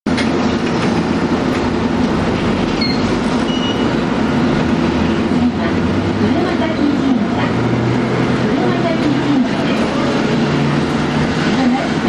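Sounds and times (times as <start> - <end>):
wheel and rail rumble: 0.1 - 12.0
tram motor growl: 0.2 - 12.0.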